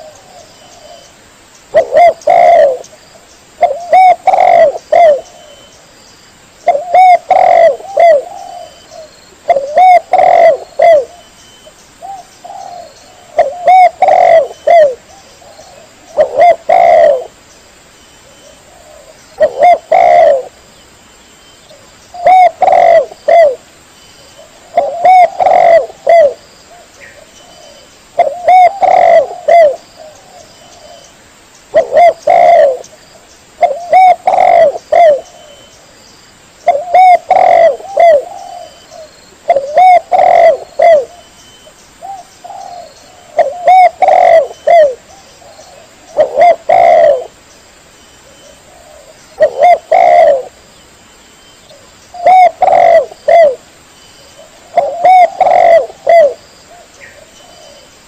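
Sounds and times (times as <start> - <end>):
dove cooing: 0.0 - 1.1, 1.7 - 2.9, 3.6 - 5.7, 6.6 - 11.3, 12.0 - 17.4, 18.2 - 20.6, 21.7 - 23.6, 24.4 - 31.1, 31.7 - 32.9, 33.6 - 35.7, 36.6 - 41.3, 42.0 - 47.4, 48.2 - 50.6, 51.7 - 53.7, 54.4 - 58.0.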